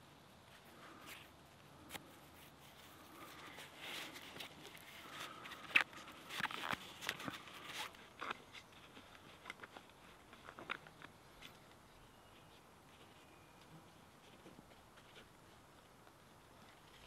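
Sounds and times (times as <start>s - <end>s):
dry fibres rustling and crackling: 0.0s - 17.0s.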